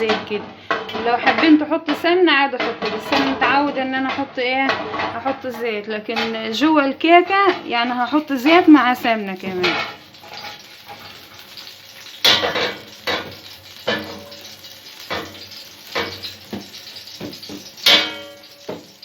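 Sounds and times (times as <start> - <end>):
metal baking trays clattering: 2.6 - 19.0.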